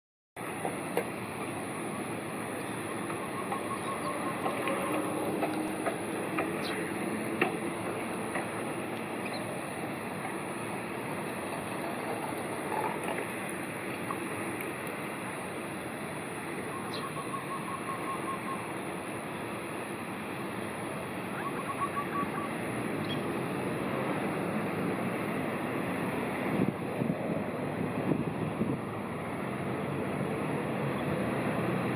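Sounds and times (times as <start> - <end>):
rushing outdoor background noise: 0.4 - 31.9.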